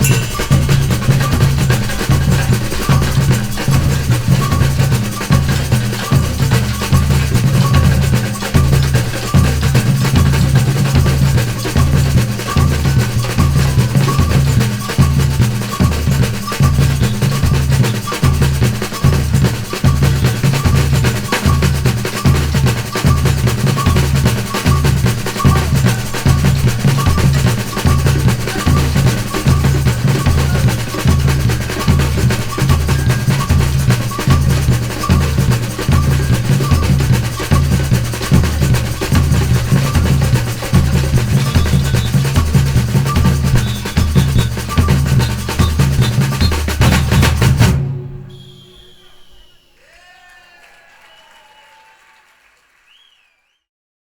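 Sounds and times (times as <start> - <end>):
deep bass drums: 0.0 - 47.9
percussion rattling: 0.0 - 48.6
snare drum rolls: 0.0 - 49.8.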